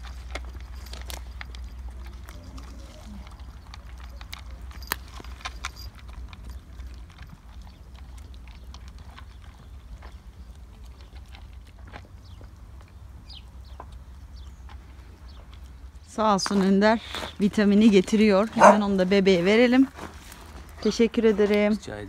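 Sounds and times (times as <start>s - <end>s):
dog chewing kibble: 0.0s - 16.7s, 17.6s - 22.0s.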